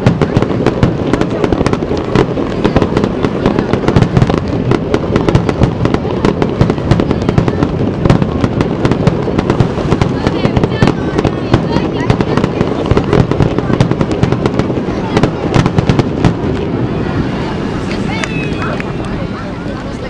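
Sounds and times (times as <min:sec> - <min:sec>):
fireworks bursting and crackling: 0:00.0 - 0:20.0.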